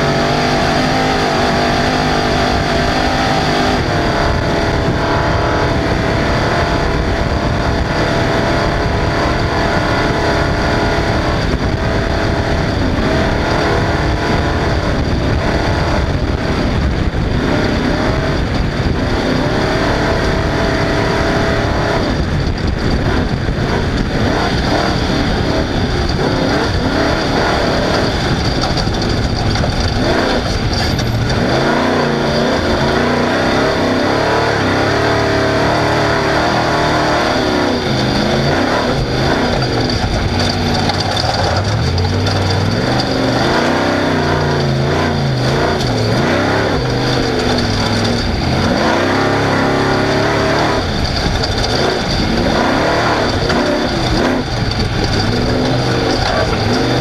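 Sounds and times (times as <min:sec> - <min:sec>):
race car engine running hard: 0:00.0 - 0:57.0
wind and tyre noise: 0:00.0 - 0:57.0.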